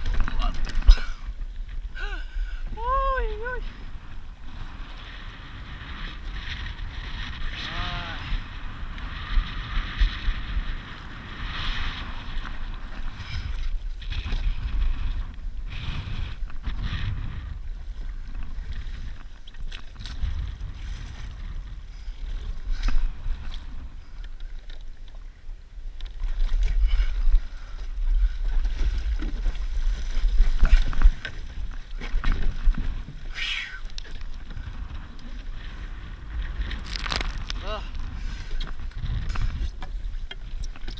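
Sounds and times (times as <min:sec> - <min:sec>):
water splashing along hull: 0:00.0 - 0:40.9
wind rumbling on microphone: 0:00.0 - 0:40.9.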